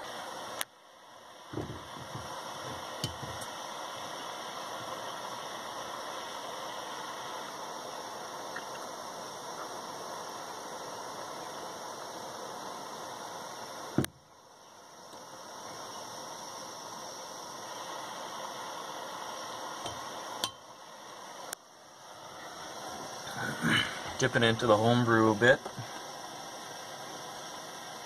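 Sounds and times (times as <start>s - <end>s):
torch flame hissing: 0.0s - 28.0s.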